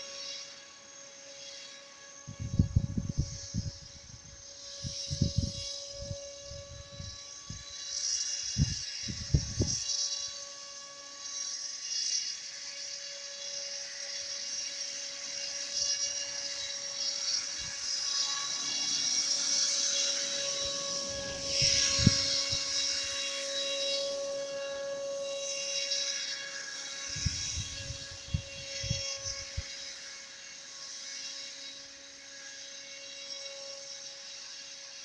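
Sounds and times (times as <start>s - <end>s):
toy boat motor whining: 0.0s - 35.0s.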